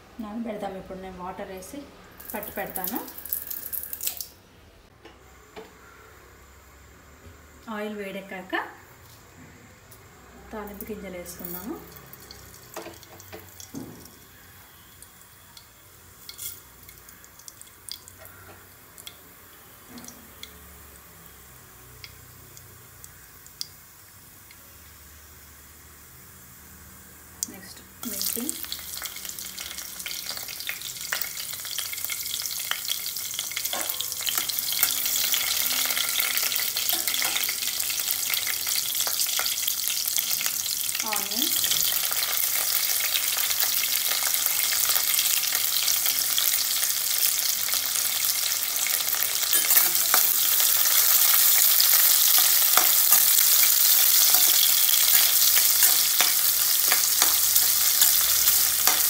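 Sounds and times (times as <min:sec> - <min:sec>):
vegetables sizzling in hot oil: 0:00.2 - 0:04.4, 0:07.6 - 0:59.0.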